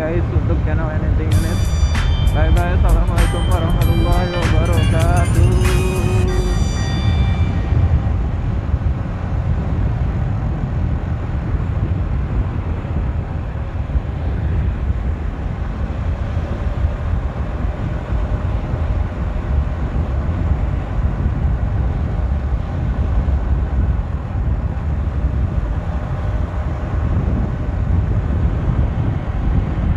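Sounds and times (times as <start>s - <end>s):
wind rumble on microphone: 0.0s - 29.9s.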